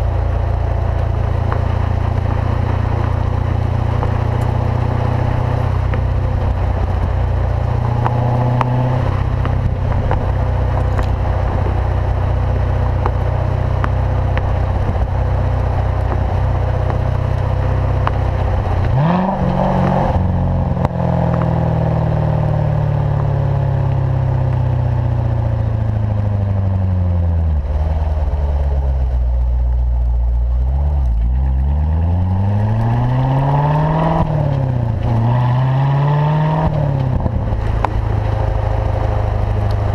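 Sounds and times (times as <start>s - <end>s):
car engine exhaust drone and revving: 0.0s - 39.9s.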